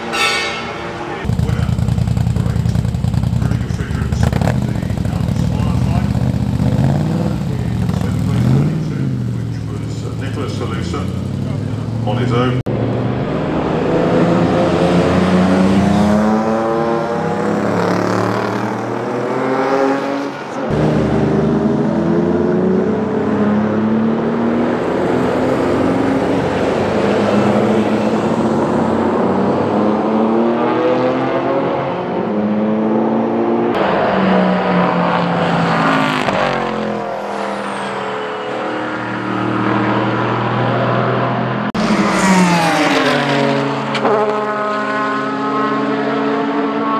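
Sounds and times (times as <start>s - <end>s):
racing car engines at full throttle: 0.0s - 46.9s.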